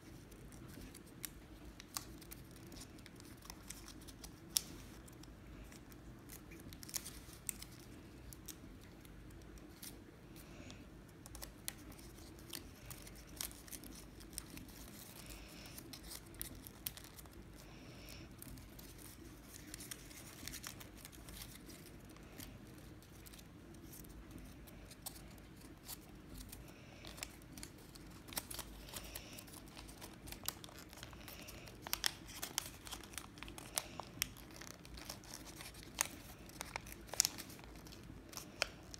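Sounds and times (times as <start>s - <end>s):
faint steady low hum: 0.0s - 38.9s
paper crinkling and crackling: 0.0s - 38.9s.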